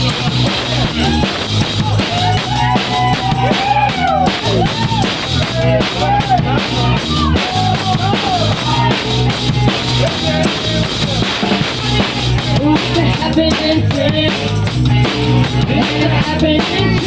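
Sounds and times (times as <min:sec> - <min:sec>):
bass line: 0:00.0 - 0:17.0
drum kit beat: 0:00.0 - 0:17.0
melodic guitar riff: 0:00.0 - 0:17.0.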